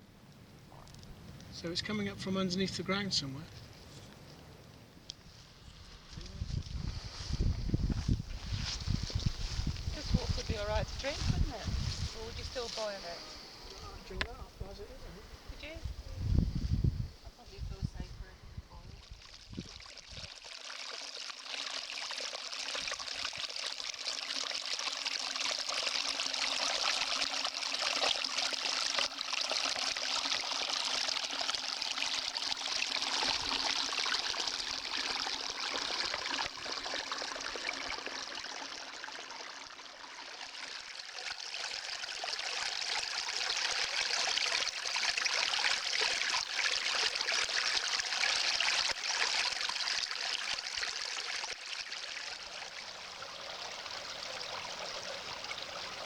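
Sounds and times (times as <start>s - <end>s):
stream trickling: 0.2s - 56.0s.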